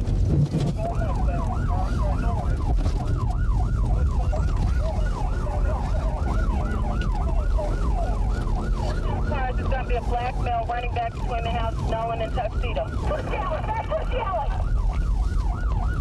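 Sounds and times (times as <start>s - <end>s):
engine and road rumble: 0.0s - 16.0s
police siren yelping: 0.7s - 16.0s.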